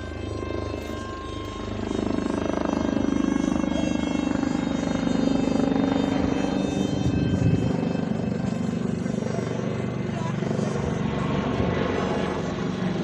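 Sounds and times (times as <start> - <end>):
electric motor and propeller buzzing: 0.0 - 13.0
high whine: 0.0 - 13.0.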